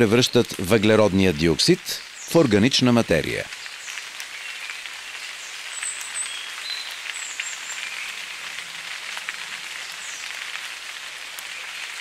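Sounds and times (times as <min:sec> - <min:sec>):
rain on leaves: 0:00.0 - 0:12.0.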